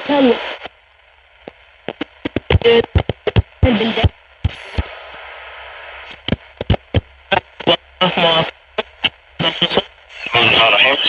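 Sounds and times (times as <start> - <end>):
radio broadcast voices: 0.0 - 11.0
radio clicks and crackle: 0.0 - 11.0
radio static hiss: 0.0 - 11.0.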